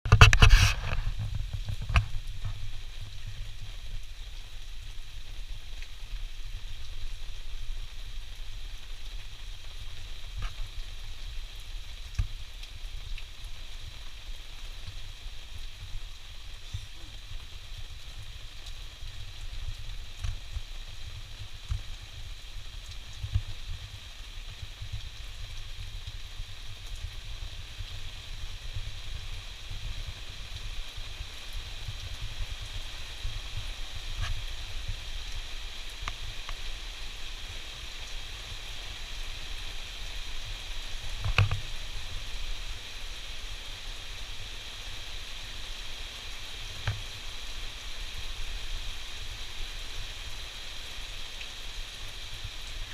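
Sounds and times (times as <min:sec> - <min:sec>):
steady rain hiss: 0:00.0 - 0:52.9
sharp raindrop hits: 0:00.1 - 0:42.8.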